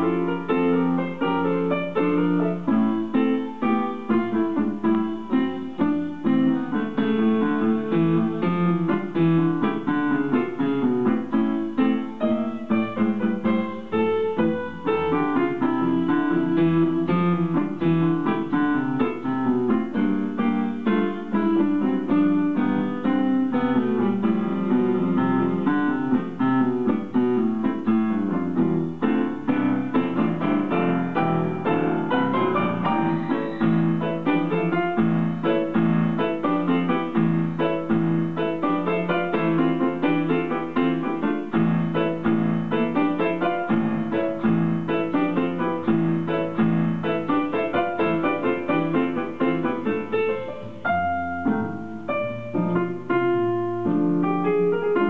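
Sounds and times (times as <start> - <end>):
digital piano playing: 0.0 - 55.0.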